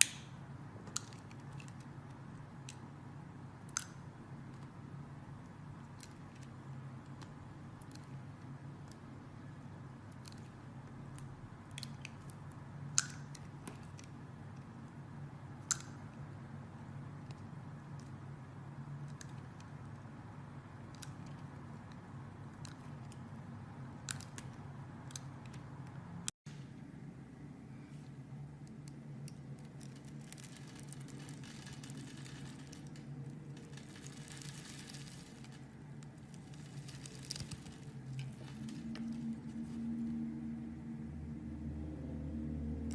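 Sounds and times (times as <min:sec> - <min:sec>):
faint low hum: 0:00.0 - 0:42.9.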